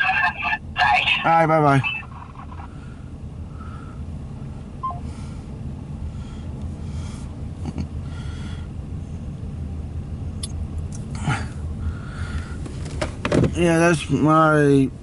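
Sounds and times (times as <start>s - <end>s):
vehicle motor rumble: 0.0s - 15.0s.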